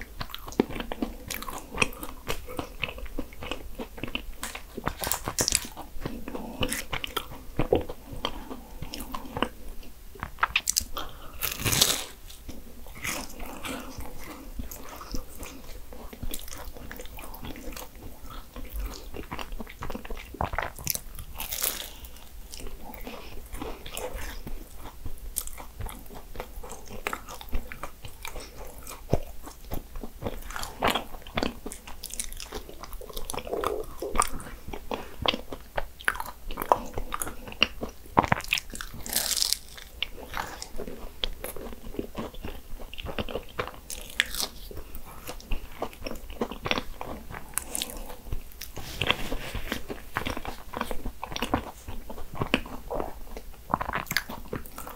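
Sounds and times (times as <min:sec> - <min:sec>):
flaky pastry crunching: 0:00.1 - 0:54.9.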